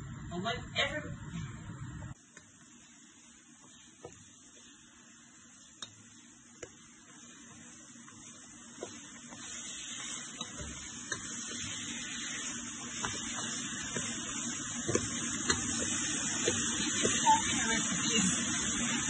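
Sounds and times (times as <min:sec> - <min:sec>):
chicken sizzling in a pot: 0:01.4 - 0:19.0.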